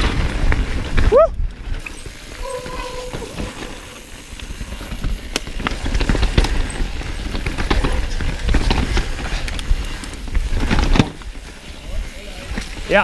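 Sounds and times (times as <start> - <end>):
wheels knocking on rocks and roots: 0.0 - 13.0
wind and tyres rumbling: 0.0 - 13.0.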